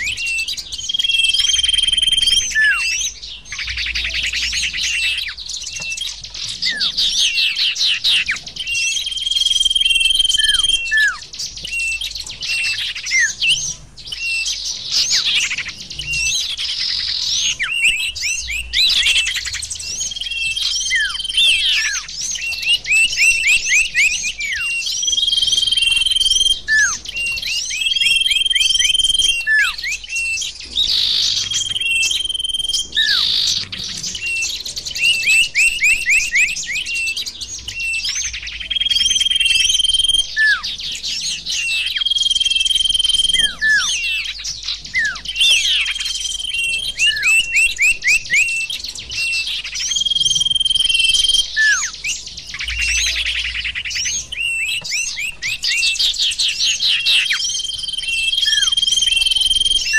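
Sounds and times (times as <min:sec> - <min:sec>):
songbirds twittering and singing: 0:00.0 - 0:59.9.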